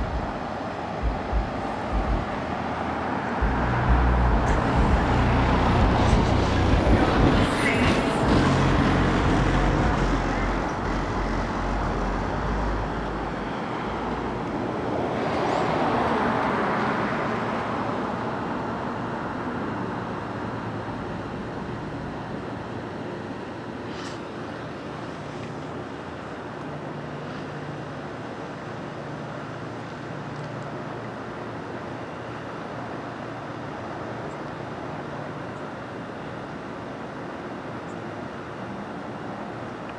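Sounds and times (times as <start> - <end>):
road traffic rumbling past: 0.0 - 39.9.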